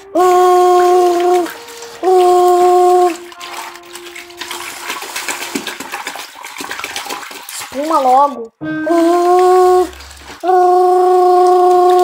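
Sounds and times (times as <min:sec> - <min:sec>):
water sloshing as cloths are rubbed: 0:00.0 - 0:12.0.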